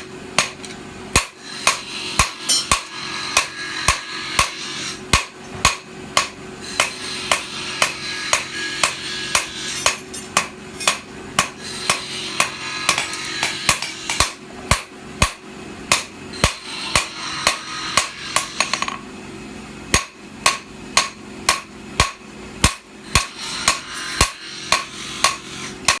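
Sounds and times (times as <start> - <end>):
hammer striking sword blade on anvil: 0.4 - 19.0, 19.9 - 26.0.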